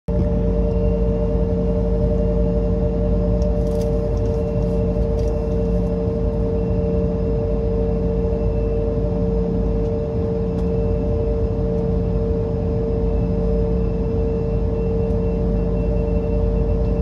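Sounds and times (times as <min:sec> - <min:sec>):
jet cabin drone: 0:00.1 - 0:17.0.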